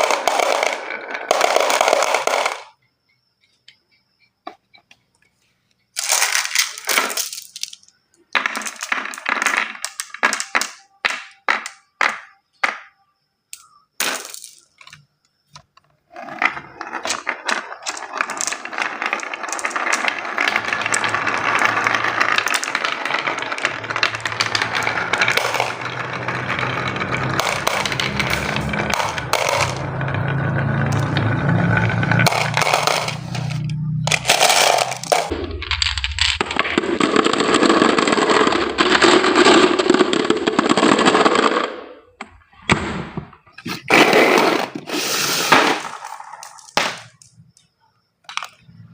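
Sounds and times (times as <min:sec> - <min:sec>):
marbles rolling down wooden run: 0:00.0 - 0:02.8, 0:06.0 - 0:42.4, 0:43.7 - 0:48.9.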